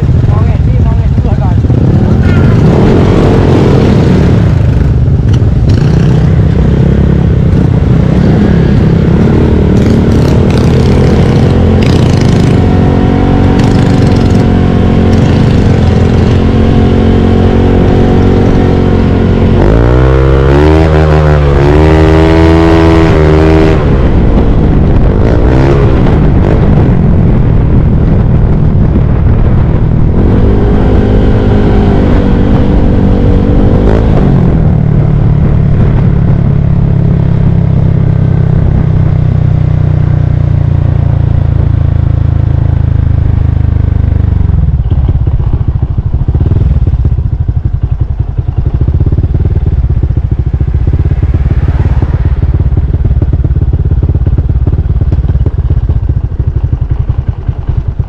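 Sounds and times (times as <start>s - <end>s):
scooter engine running: 0.0s - 22.5s, 26.1s - 58.0s
wind noise on microphone: 0.0s - 58.0s.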